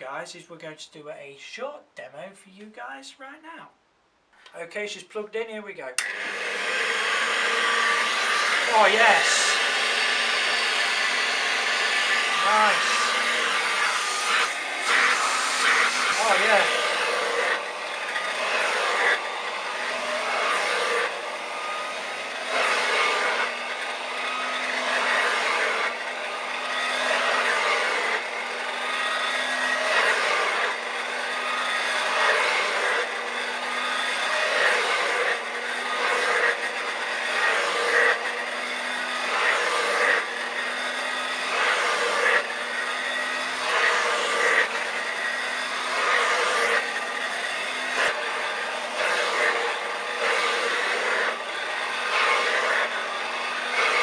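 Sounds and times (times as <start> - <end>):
hand-held vacuum cleaner running: 6.0 - 54.0.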